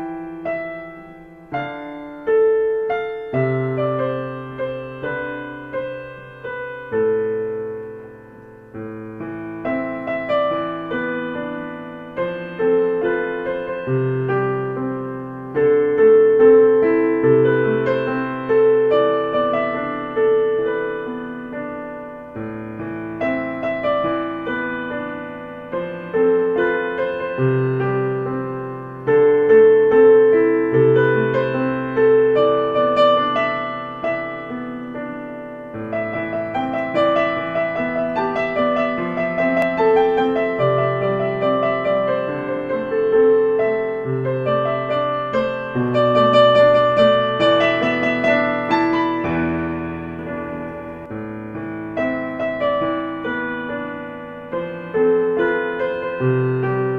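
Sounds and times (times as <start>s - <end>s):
gentle piano music: 0.0s - 56.9s.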